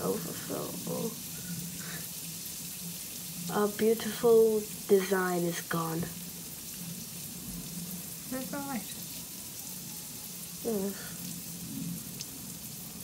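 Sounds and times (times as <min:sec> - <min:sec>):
tablets fizzing in water: 0:00.0 - 0:13.0.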